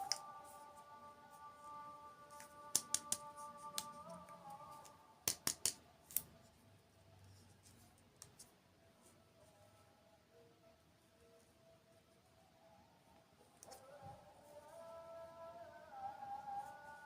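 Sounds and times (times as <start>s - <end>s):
faint background music tones: 0.0s - 17.0s.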